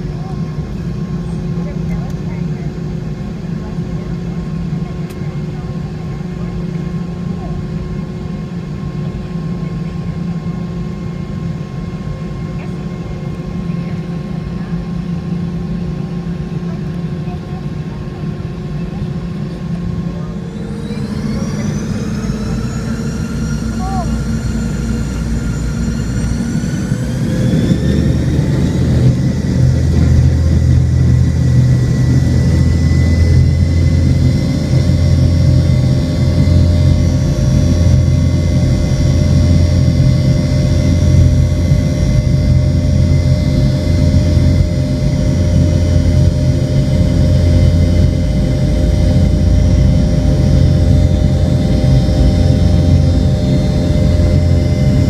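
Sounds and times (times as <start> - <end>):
jet engine roar: 0.0 - 55.0
jet engines whining: 0.0 - 55.0.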